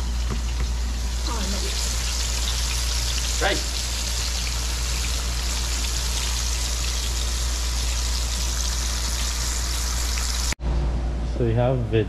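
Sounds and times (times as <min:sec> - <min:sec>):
fish sizzling in hot oil: 0:00.0 - 0:10.6.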